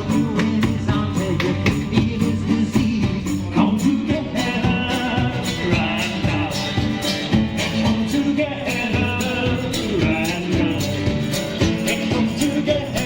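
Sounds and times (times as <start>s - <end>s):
guitar: 0.0s - 13.0s
percussive beat: 0.0s - 13.0s
person singing: 0.0s - 13.0s.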